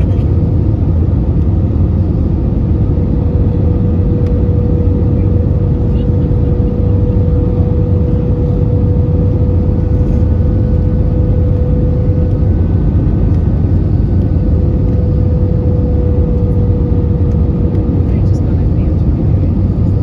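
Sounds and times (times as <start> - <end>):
airplane cabin rumble: 0.0 - 20.0
constant hum: 0.0 - 20.0.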